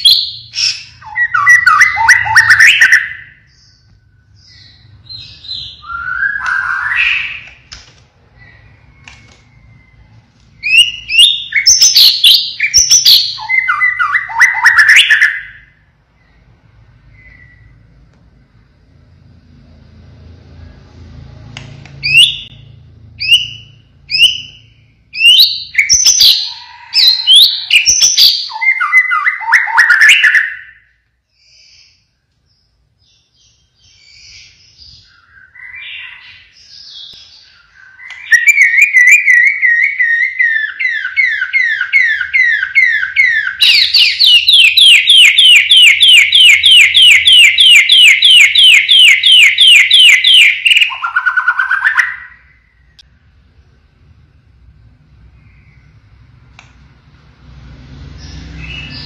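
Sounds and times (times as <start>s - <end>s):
bird singing: 0.0s - 18.7s, 21.9s - 53.1s, 54.3s - 56.4s, 58.0s - 59.0s.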